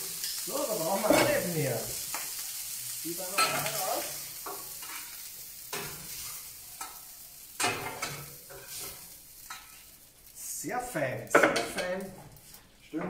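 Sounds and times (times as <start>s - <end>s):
food sizzling on grill plate: 0.0s - 13.0s.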